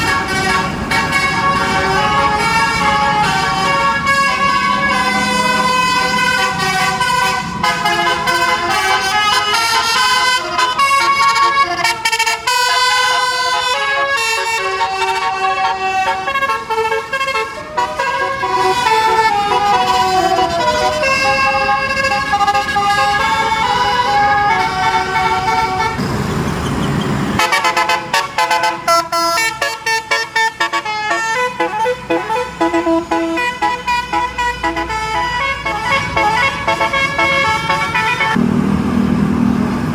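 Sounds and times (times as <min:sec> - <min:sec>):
multi-note bus air horn tune: 0:00.0 - 0:26.1, 0:27.4 - 0:38.6.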